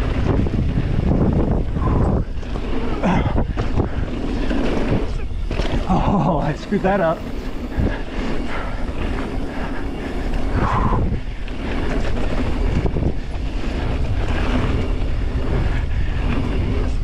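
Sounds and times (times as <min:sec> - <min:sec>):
bike rattling over bumps: 0:00.0 - 0:17.0
tyres rumbling on gravel: 0:00.0 - 0:17.0.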